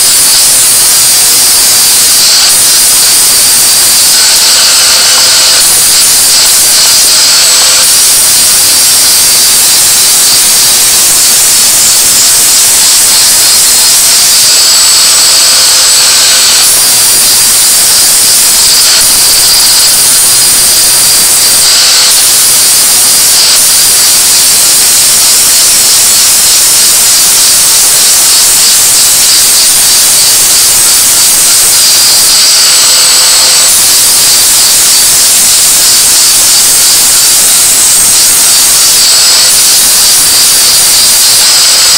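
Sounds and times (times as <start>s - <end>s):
angle grinder grinding metal: 0.0s - 41.9s.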